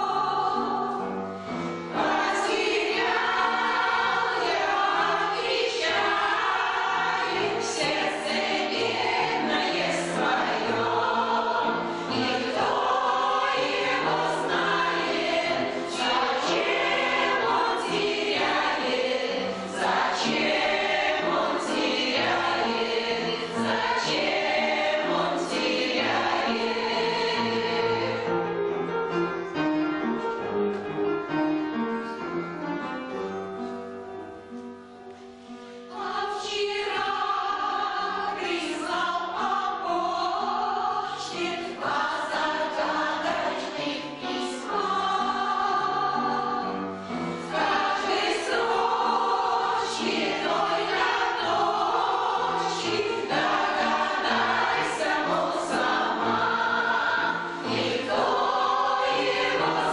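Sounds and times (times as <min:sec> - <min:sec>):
choir singing: 0:00.0 - 0:28.8, 0:35.9 - 0:59.9
musical accompaniment: 0:00.0 - 0:59.9.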